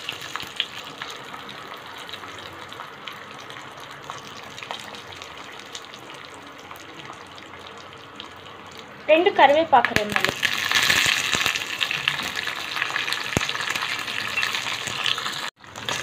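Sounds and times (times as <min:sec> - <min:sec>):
food frying in hot oil: 0:00.0 - 0:16.0
small pops of frying: 0:00.0 - 0:16.0.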